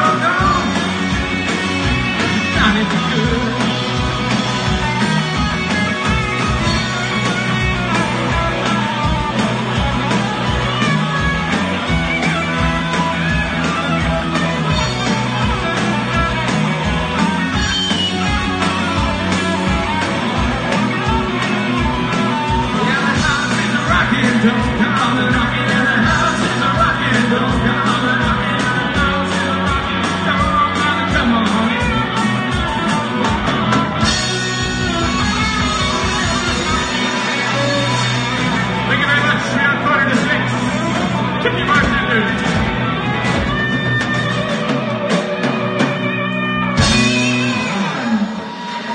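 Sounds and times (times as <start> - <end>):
rock band playing: 0.0 - 48.9.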